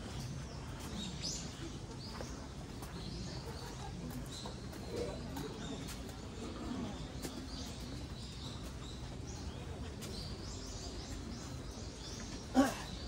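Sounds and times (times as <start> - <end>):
small birds chirping: 0.0 - 13.0
steady background noise: 0.0 - 13.0.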